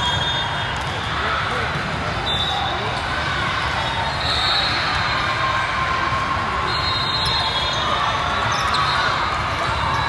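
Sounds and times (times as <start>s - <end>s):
many distant voices: 0.0s - 10.0s.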